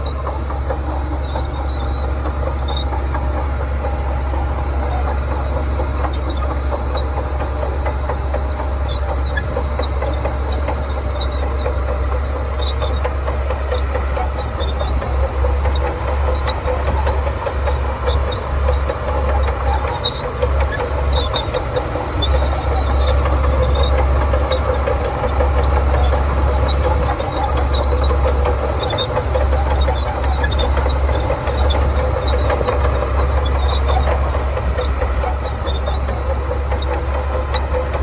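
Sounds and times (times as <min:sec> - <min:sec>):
bulldozer diesel engine droning: 0:00.0 - 0:38.0.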